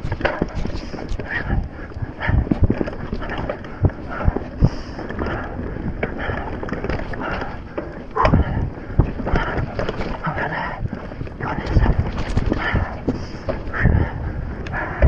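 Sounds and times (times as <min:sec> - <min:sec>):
bike thumping over bumps: 0:00.0 - 0:14.2
bike tyre noise: 0:00.0 - 0:15.0
frame and chain rattle: 0:00.0 - 0:15.0
heavy breathing: 0:00.0 - 0:15.0
wind on microphone: 0:00.0 - 0:15.0.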